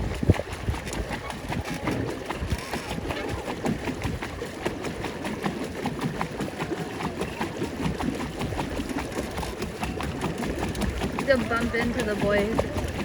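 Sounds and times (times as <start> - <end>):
paddle wheel churning water: 0.0 - 13.0
small clicks and splashes: 0.0 - 13.0.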